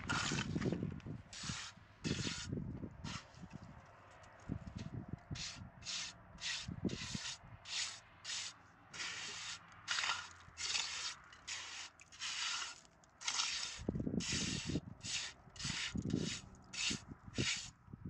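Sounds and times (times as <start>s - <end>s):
rubbing or scraping strokes: 0.0s - 3.6s, 4.8s - 17.8s.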